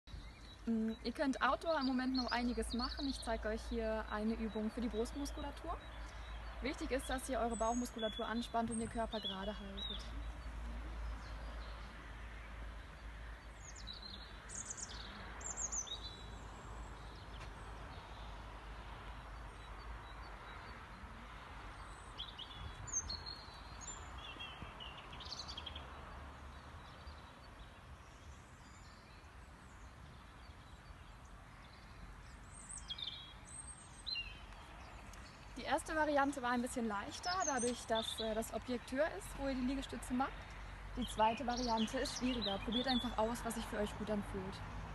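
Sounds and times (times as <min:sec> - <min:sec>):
small songbirds chirping: 0:00.1 - 0:44.9.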